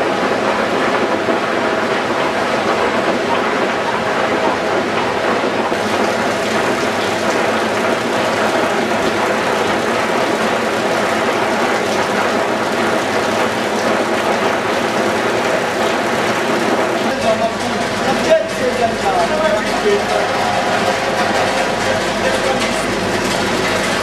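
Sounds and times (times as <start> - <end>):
conveyor and fans running: 0.0 - 24.0.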